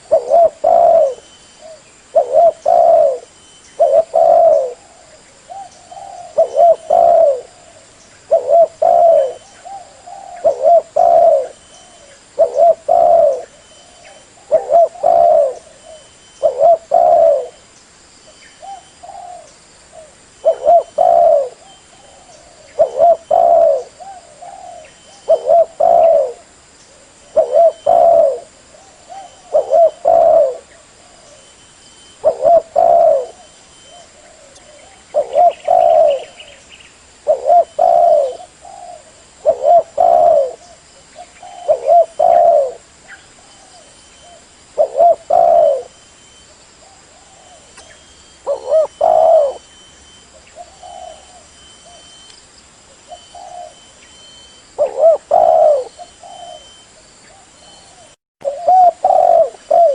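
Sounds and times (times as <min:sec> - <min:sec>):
dove cooing: 0:00.0 - 0:17.6, 0:18.6 - 0:36.6, 0:37.2 - 0:52.2, 0:52.9 - 0:59.9.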